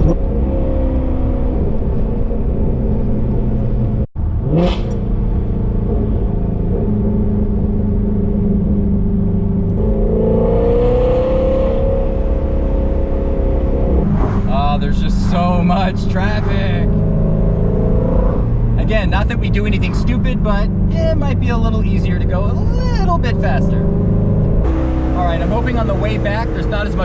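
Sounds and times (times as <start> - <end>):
car engine cruising low revs: 0.0 - 27.0.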